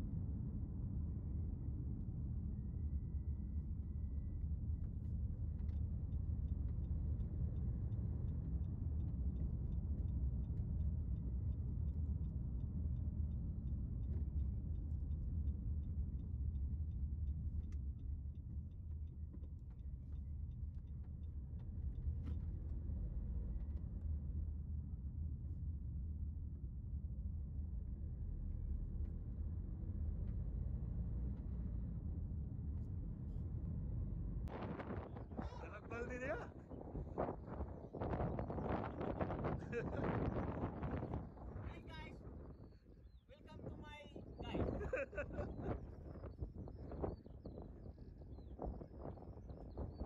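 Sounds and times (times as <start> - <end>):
car engine and tyres rumble: 0.0 - 50.0.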